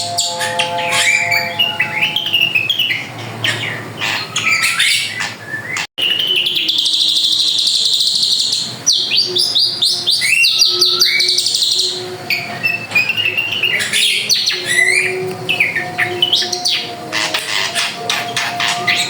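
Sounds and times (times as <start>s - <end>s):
bird singing chirps and whistles: 0.0s - 19.0s.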